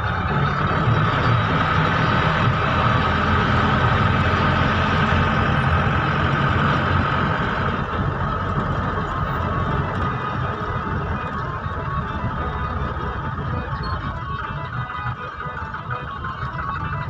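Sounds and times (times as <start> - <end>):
tyre road noise: 0.0 - 17.0
vehicle engine running: 0.0 - 17.0.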